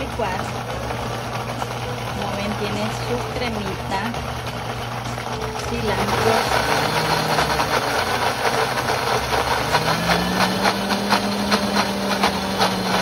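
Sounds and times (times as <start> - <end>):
blender motor running: 0.0 - 13.0
rapid ticking from blender jar: 0.0 - 13.0.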